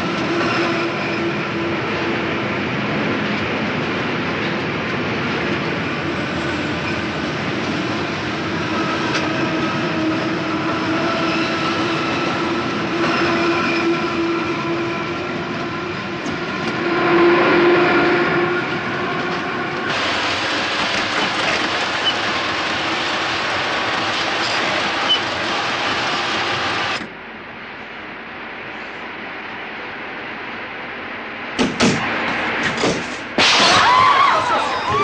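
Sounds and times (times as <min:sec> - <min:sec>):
train rumbling with whine: 0:00.0 - 0:35.0.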